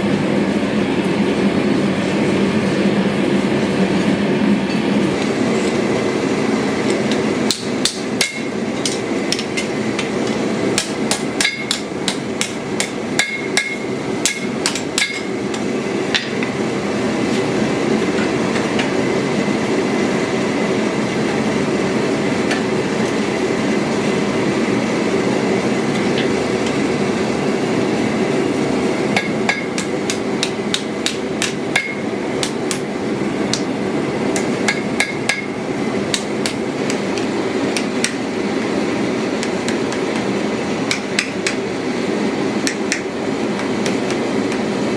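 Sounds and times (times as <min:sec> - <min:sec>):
steady background noise: 0:00.0 - 0:44.9.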